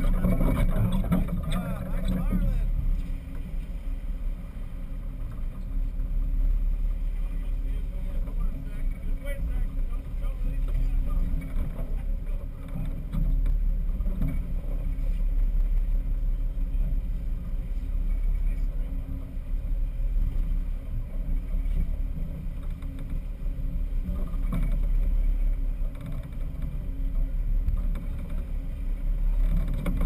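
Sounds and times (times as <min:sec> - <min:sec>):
boat engine rumbling: 0:00.0 - 0:30.0
rushing water: 0:00.0 - 0:30.0
wind: 0:00.0 - 0:30.0.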